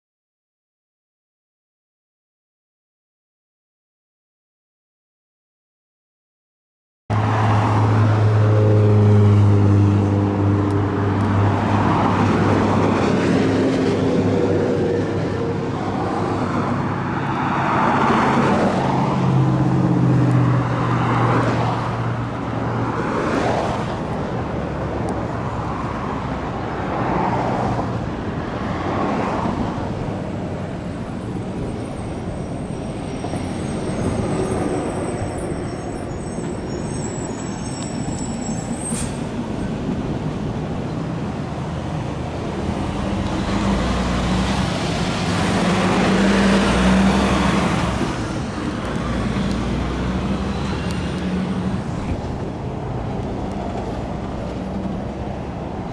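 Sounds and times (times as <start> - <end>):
cars passing: 7.1 - 55.9.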